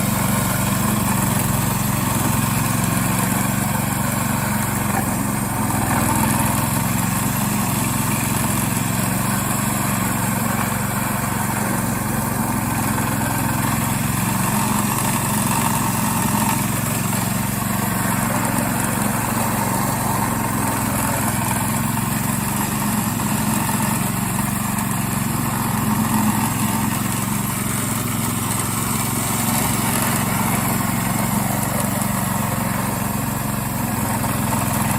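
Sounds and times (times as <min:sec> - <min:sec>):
small lawn mower engine running: 0:00.0 - 0:34.9.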